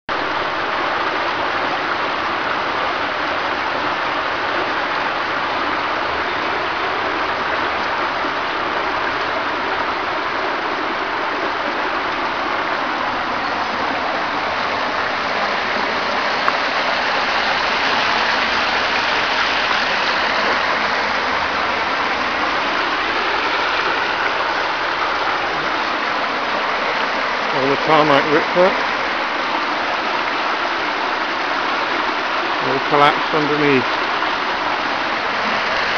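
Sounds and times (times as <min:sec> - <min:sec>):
floodwater rushing: 0:00.1 - 0:35.9.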